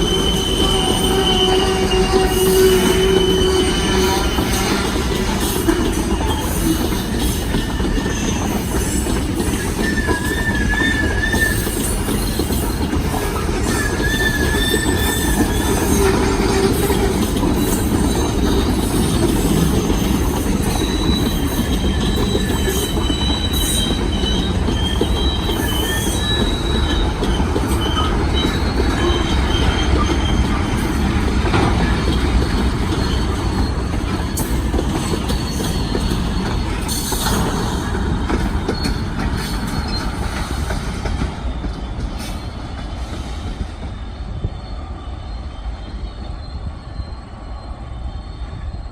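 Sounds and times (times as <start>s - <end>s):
train rumbling on track: 0.0s - 48.9s
wheel squeal: 0.0s - 48.9s
wheels clicking over rail joints: 0.2s - 43.9s.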